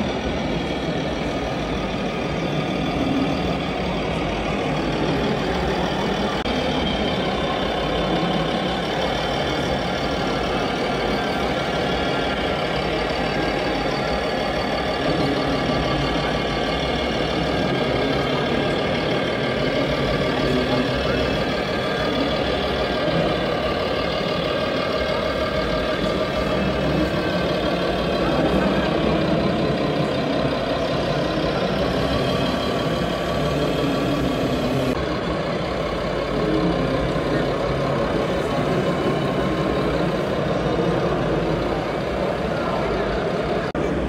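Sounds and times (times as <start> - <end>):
simulated diesel truck engine: 0.0 - 44.0.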